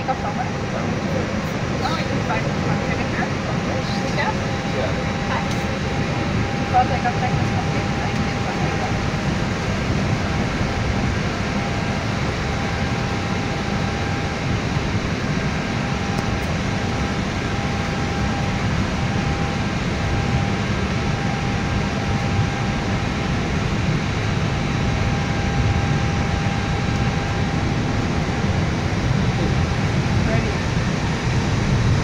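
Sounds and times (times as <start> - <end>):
faint steady whine: 0.0 - 32.0
jet engines rumbling: 0.0 - 32.0.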